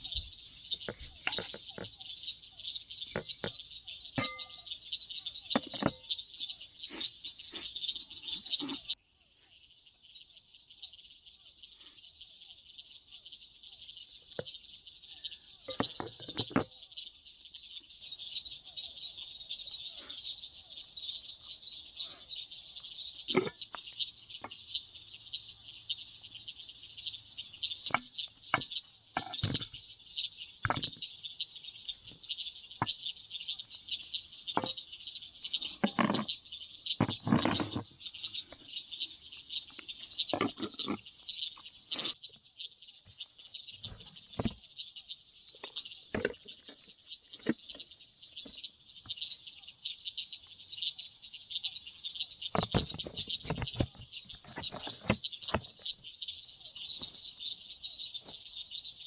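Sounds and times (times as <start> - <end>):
frogs and insects trilling: 0.0 - 59.0.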